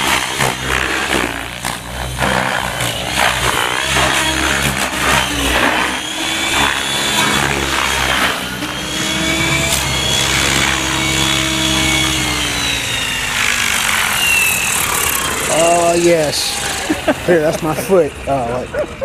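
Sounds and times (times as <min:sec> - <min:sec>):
model helicopter rotor and motor whine: 0:00.0 - 0:19.0.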